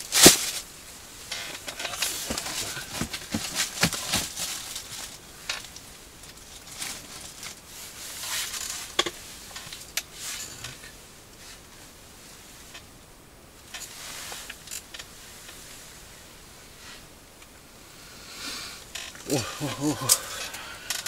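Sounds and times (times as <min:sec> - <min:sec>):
clothing and gear rustling: 0:00.0 - 0:12.9, 0:13.7 - 0:17.1, 0:18.8 - 0:21.0.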